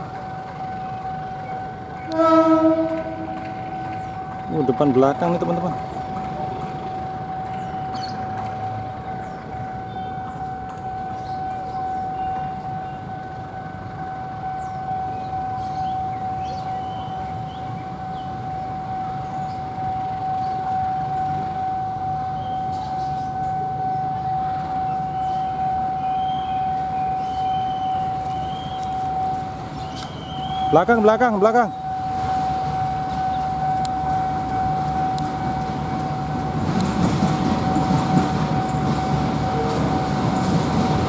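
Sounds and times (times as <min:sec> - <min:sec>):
level crossing alarm tone: 0:00.0 - 0:41.0
passing train rumble: 0:00.0 - 0:41.0.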